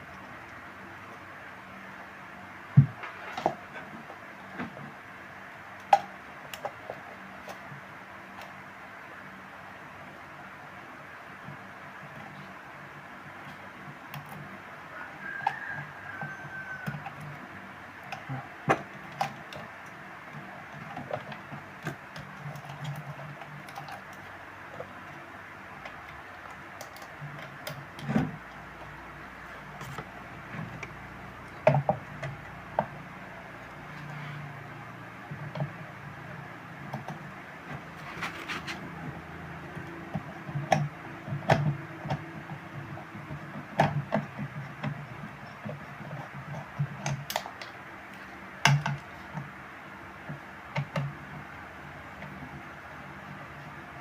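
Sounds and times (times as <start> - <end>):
low background hum: 0.0 - 54.0.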